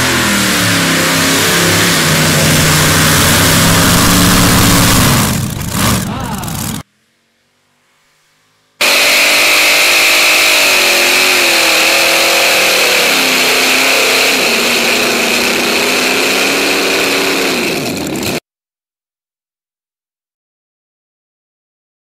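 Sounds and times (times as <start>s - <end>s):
engines at full throttle: 0.0s - 6.8s, 7.4s - 18.4s
high supercharger whine: 0.0s - 18.4s.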